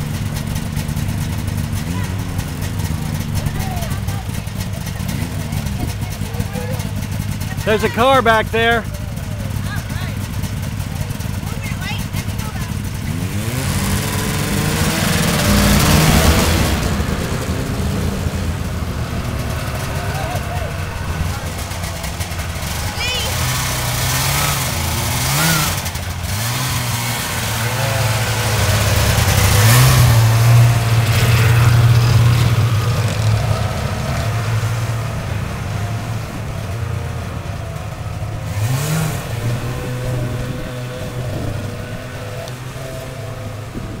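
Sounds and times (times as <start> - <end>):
snowmobile engines revving: 0.0 - 44.0.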